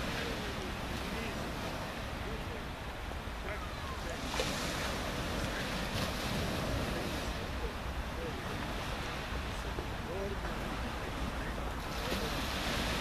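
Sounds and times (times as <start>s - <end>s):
low wind rumble on microphone: 0.0s - 13.0s
small waves washing up pebble beach: 0.0s - 13.0s.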